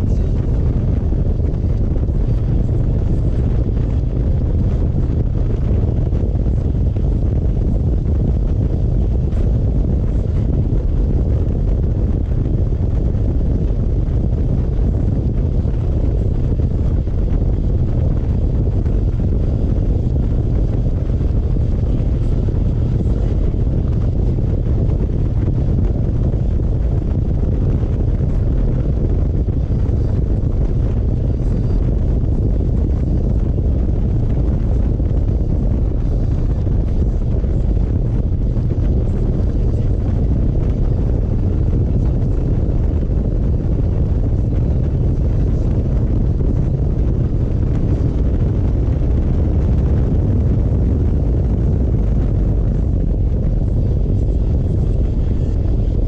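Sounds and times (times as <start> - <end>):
motorcycle running: 0.0 - 56.0
wind rumble on microphone: 0.0 - 56.0.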